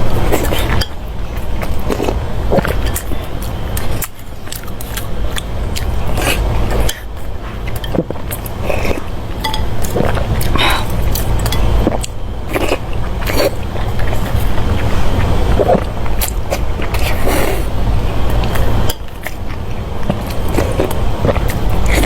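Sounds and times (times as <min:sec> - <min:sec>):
biting and chewing food: 0:00.0 - 0:22.0
steady low hum: 0:00.0 - 0:22.0.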